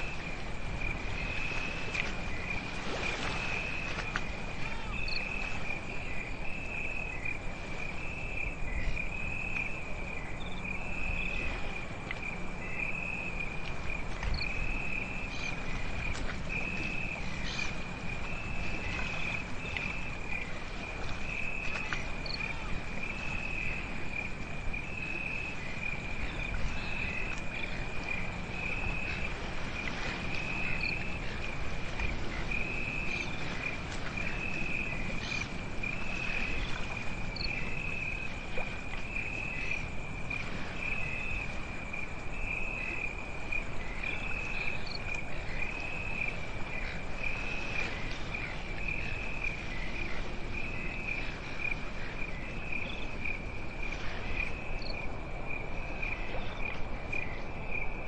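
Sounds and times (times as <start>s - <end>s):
night insects trilling: 0.0s - 58.0s.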